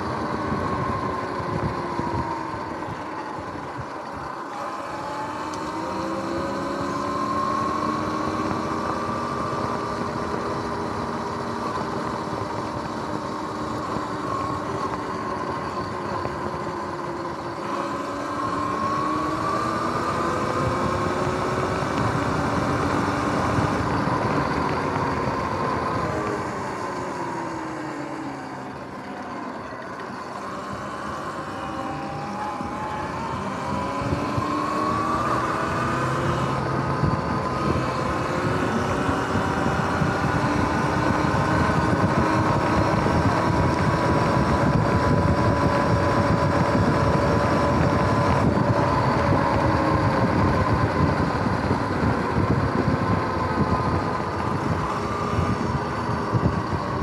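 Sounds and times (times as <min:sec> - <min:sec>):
electric motor whining: 0:00.0 - 0:57.0
wind: 0:00.0 - 0:57.0.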